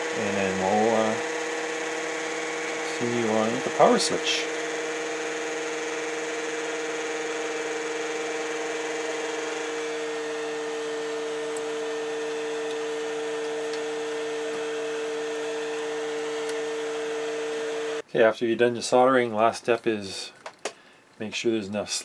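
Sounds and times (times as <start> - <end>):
machine whir with two-tone hum: 0.0 - 18.0.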